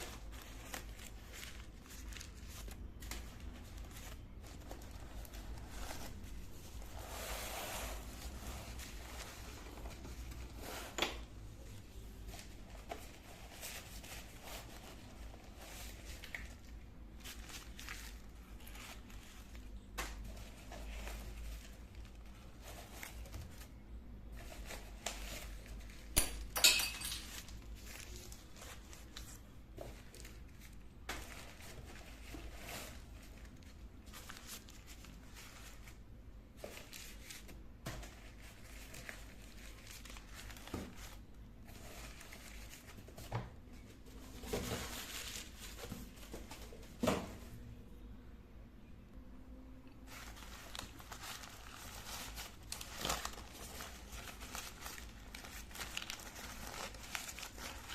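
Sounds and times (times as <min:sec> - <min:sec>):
packaging rustling and crinkling: 0:00.0 - 0:26.2, 0:27.0 - 0:47.1, 0:50.1 - 0:57.9.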